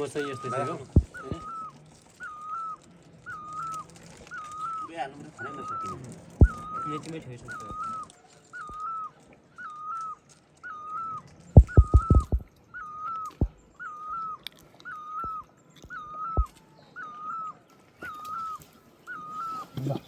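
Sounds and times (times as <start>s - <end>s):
animal whining call: 0.0s - 20.0s.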